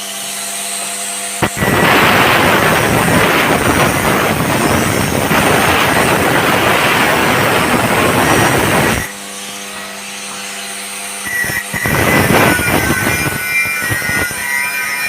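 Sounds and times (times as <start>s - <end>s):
power tool grinding metal: 0.0s - 15.0s
steady hum: 1.2s - 15.0s.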